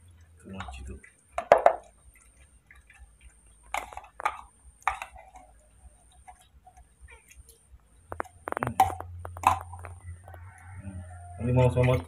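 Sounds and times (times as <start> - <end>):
animal lapping and chewing: 0.0 - 10.7.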